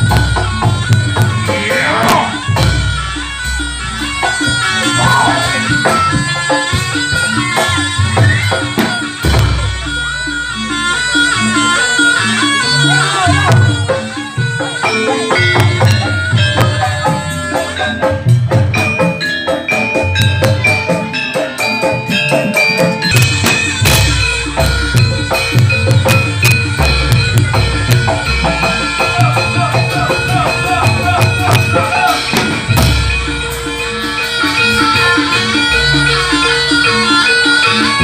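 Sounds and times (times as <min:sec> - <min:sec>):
deep drum beats: 0:00.0 - 0:20.9, 0:22.8 - 0:38.0
hand drums: 0:00.0 - 0:38.0
struck metallophones: 0:00.0 - 0:38.0.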